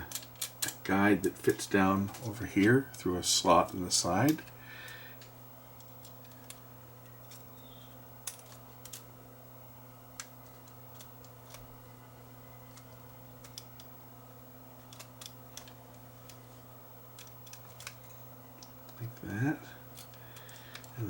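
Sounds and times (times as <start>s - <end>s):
small parts clicking: 0.0s - 9.1s, 10.1s - 11.8s, 12.6s - 13.9s, 14.8s - 21.0s
steady low hum: 0.0s - 21.0s.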